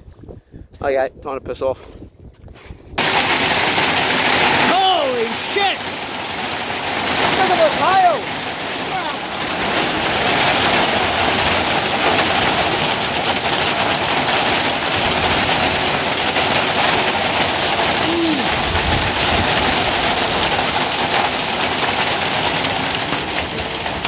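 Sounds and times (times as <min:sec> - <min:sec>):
hailstones pelting down: 0:03.0 - 0:24.0.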